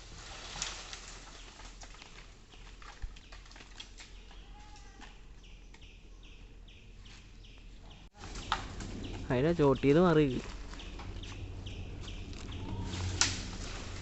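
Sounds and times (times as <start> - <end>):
bird calls: 2.5 - 14.0.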